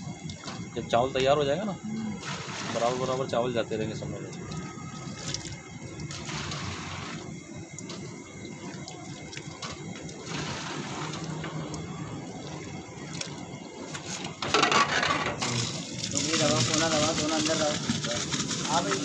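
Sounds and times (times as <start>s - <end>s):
water splashing into pot: 2.2s - 3.6s, 4.2s - 19.0s.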